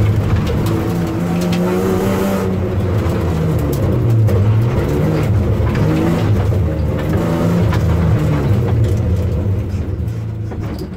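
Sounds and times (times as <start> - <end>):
car clicks and rattles: 0.0 - 10.9
car engine from inside cabin: 0.0 - 10.9.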